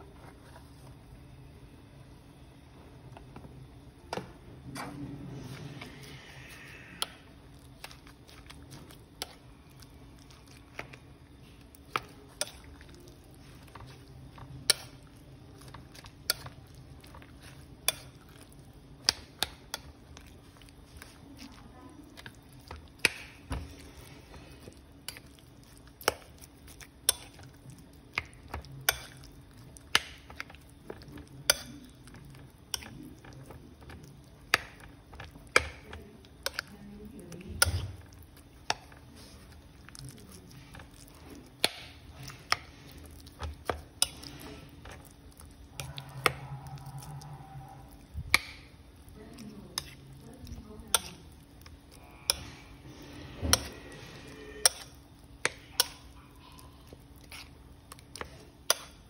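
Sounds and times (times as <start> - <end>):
utensil stirring wet mixture: 5.0 - 59.0.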